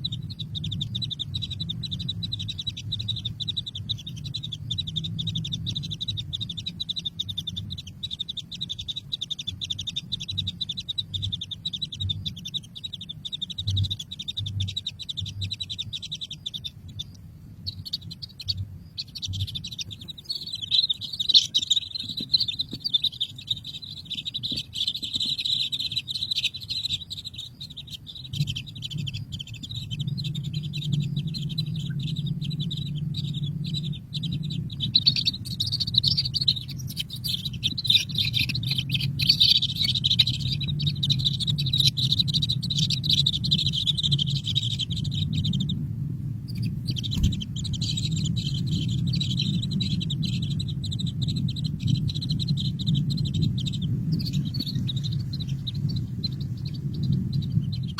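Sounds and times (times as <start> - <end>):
baby birds chirping: 0.0 - 57.9
low hum: 0.0 - 57.9.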